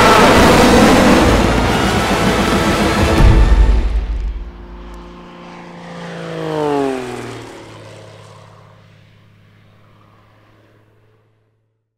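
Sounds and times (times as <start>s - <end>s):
aircraft flying past: 0.0s - 11.7s.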